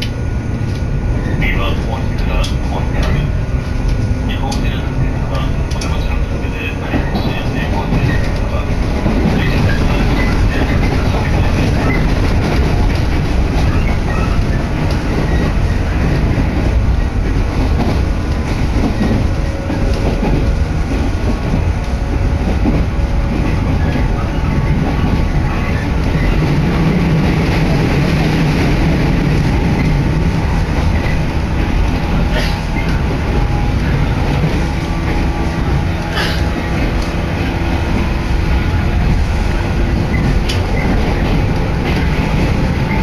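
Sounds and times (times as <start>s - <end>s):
clatter over rail joints: 0.0s - 43.0s
train wheels rumbling on rails: 0.0s - 43.0s.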